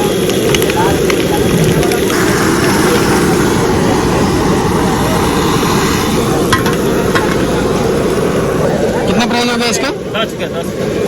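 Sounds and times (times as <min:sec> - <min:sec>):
eggs frying in a pan: 0:00.0 - 0:09.0
steady low roar: 0:00.6 - 0:10.1.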